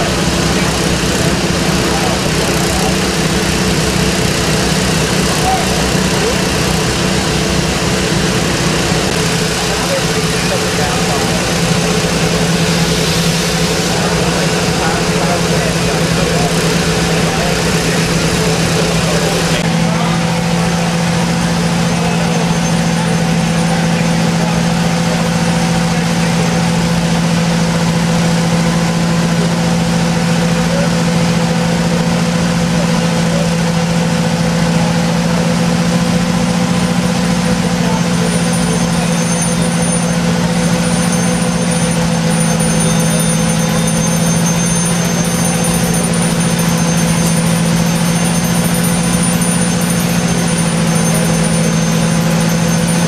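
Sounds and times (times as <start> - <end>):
diesel engine fast idle drone: 0.0 - 53.0.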